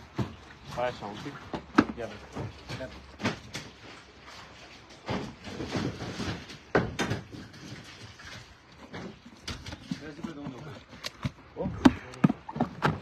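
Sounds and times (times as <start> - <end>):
fish slapping in plastic tub: 0.0 - 13.0.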